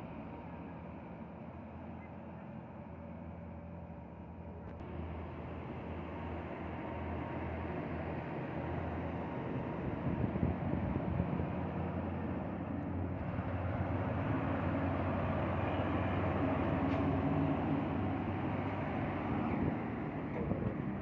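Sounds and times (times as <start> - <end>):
trucks driving past: 0.0 - 21.0.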